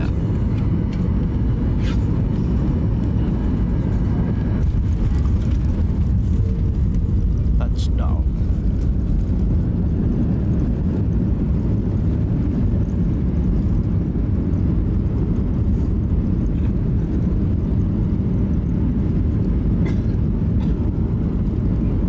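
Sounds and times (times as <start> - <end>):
airliner cabin rumble on runway: 0.0 - 22.0.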